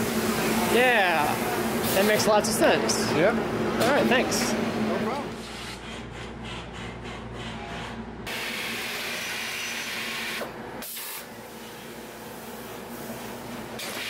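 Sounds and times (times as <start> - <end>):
factory machinery running: 0.0 - 14.0.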